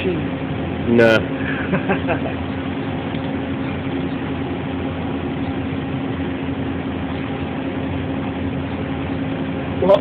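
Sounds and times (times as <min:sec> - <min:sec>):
shop machinery hum: 0:00.0 - 0:10.0.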